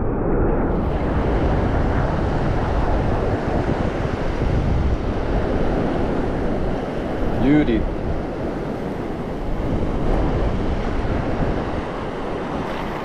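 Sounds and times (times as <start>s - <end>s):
wind buffeting microphone: 0.0s - 13.0s
surf washing over reef: 0.6s - 13.0s.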